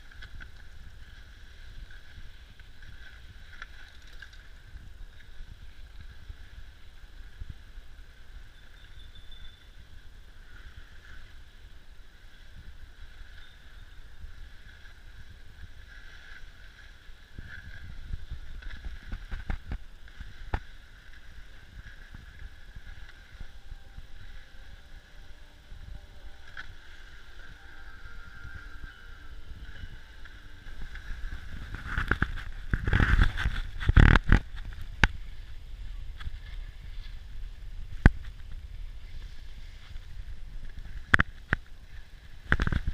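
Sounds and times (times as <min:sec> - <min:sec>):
low camera rumble: 0:00.0 - 0:42.9
skis sliding over snow: 0:00.0 - 0:42.9.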